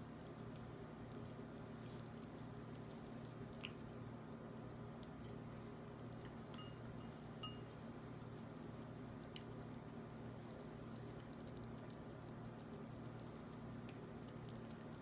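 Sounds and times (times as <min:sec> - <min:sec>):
cat eating wet food: 0:00.0 - 0:15.0
steady low hum: 0:00.0 - 0:15.0.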